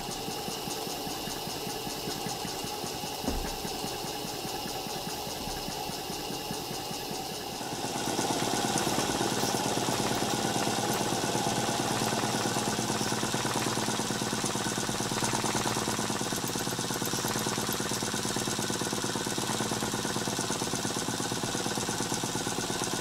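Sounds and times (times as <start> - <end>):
model steam engine running: 0.0 - 23.0.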